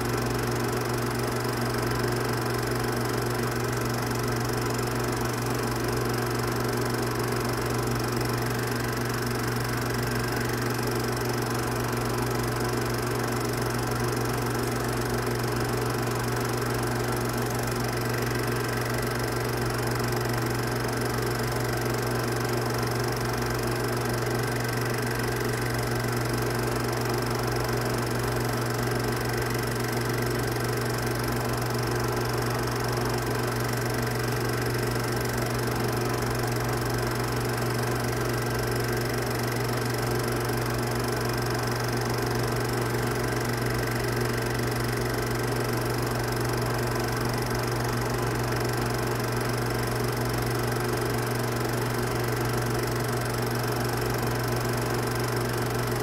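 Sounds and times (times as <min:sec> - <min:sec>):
film projector motor hum: 0:00.0 - 0:56.0.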